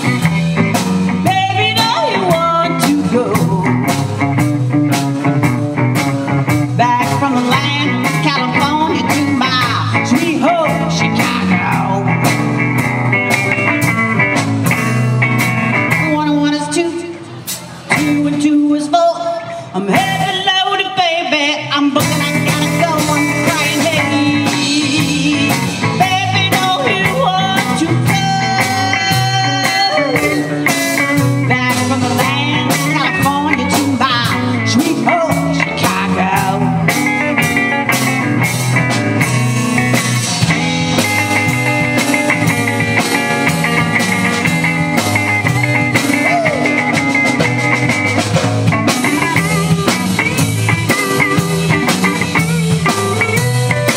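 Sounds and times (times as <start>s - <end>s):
drum kit beat: 0.0s - 16.6s, 21.8s - 53.9s
electric guitars: 0.0s - 53.9s.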